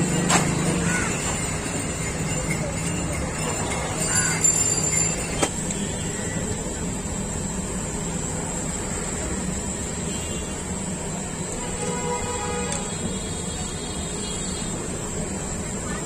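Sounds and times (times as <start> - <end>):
low traffic hum: 0.0 - 16.0.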